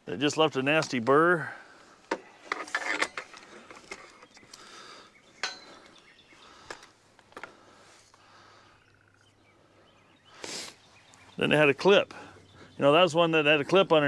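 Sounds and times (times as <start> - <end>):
faint outdoor background: 0.0 - 14.0.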